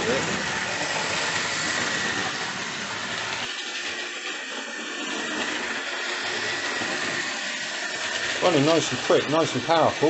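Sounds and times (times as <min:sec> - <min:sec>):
model train motor whirring: 0:00.0 - 0:10.0.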